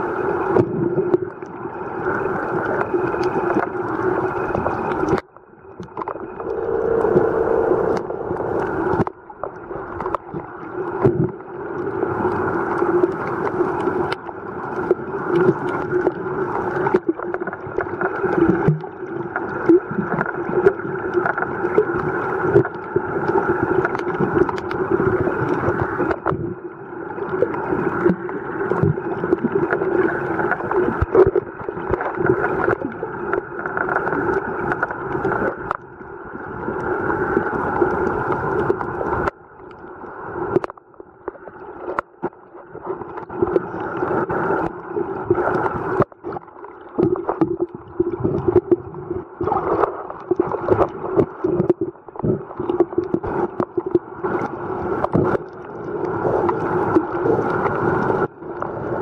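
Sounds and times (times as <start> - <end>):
muffled underwater drone: 0.0 - 59.0
water movement: 0.0 - 59.0.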